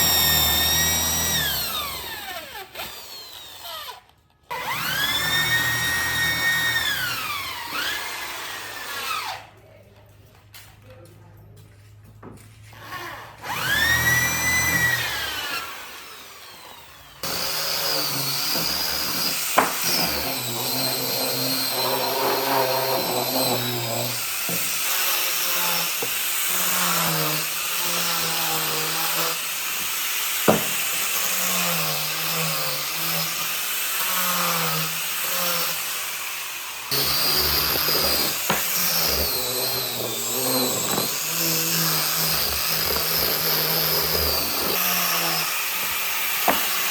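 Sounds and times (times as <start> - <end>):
electric power tool cutting wood: 0.0 - 9.5, 13.4 - 46.9.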